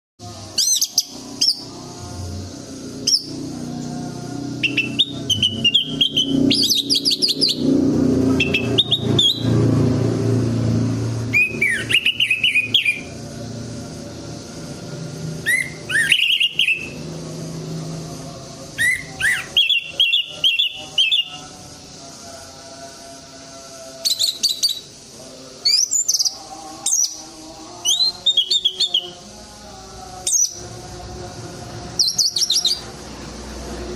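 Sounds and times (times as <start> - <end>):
steady low hum: 0.2 - 33.9
thrush singing whistled phrases: 0.4 - 2.0, 2.8 - 9.7, 11.1 - 22.3, 23.4 - 29.4, 30.0 - 30.8, 31.9 - 33.1.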